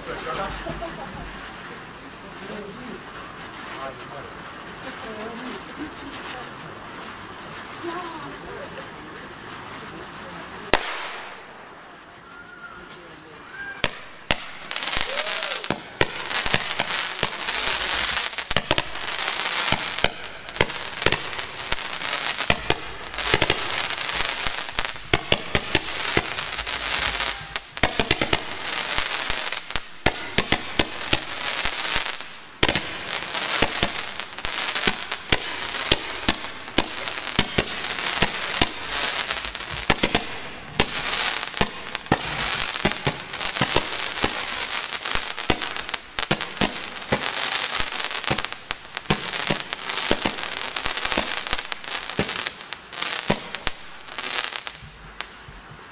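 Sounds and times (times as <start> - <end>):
fireworks bangs: 0.0 - 55.9
fireworks crackling and popping: 0.0 - 55.9.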